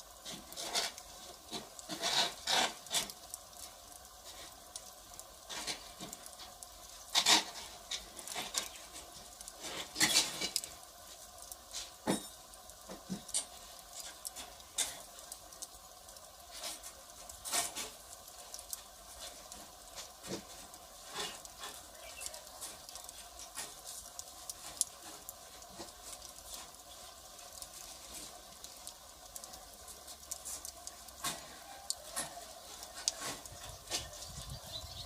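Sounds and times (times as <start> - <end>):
faint low hiss: 0.0 - 35.0
wood fire crackling and popping: 0.0 - 35.0.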